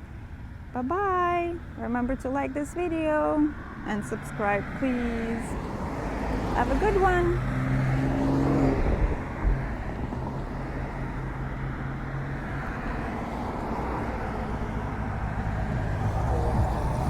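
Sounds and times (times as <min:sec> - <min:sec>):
vehicle engine hum: 0:00.0 - 0:17.0
road noise rushing: 0:01.3 - 0:17.0.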